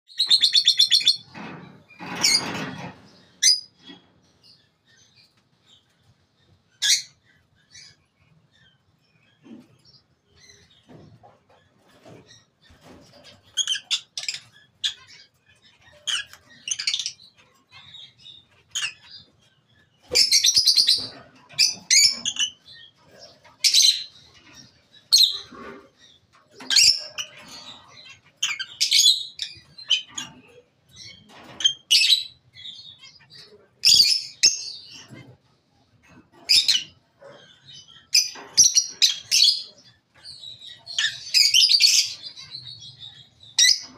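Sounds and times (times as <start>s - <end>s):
lovebirds chirping and screeching: 0.1s - 43.9s.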